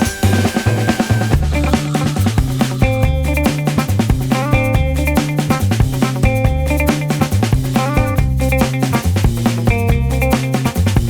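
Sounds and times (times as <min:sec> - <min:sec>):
funky groove with electric guitar: 0:01.3 - 0:11.0.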